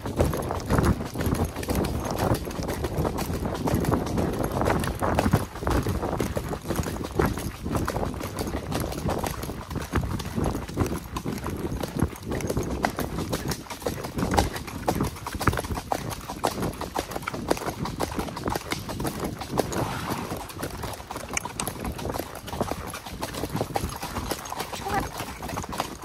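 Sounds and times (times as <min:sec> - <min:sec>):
horse hooves clip-clopping: 0:00.0 - 0:26.0.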